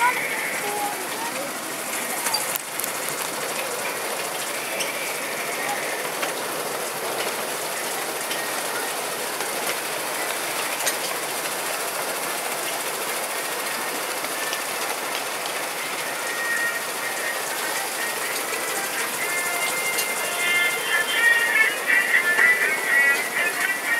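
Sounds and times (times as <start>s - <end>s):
train wheels on rails: 0.0s - 23.9s.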